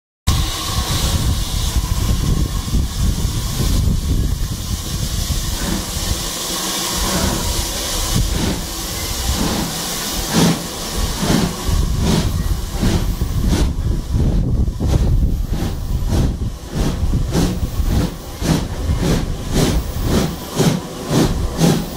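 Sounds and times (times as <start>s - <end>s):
locomotive exhaust chuffs: 0.3s - 21.9s
steam hissing: 0.3s - 21.9s.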